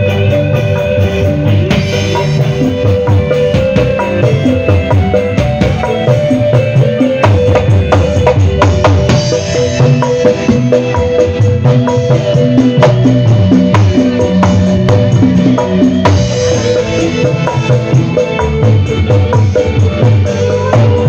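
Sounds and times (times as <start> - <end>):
band music: 0.0 - 21.0.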